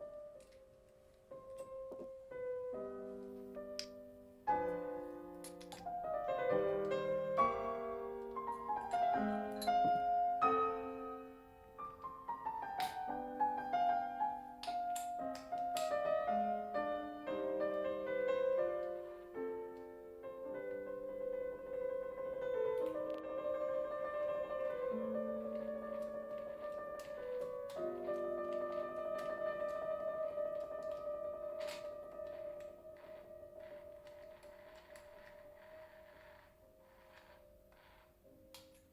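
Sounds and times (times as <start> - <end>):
piano music: 0.0 - 35.6.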